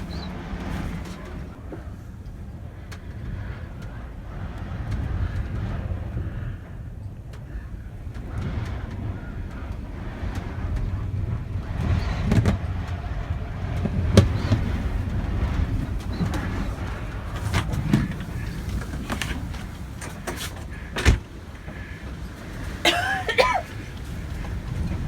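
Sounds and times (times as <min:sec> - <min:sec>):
wind rumbling: 0:00.0 - 0:25.0.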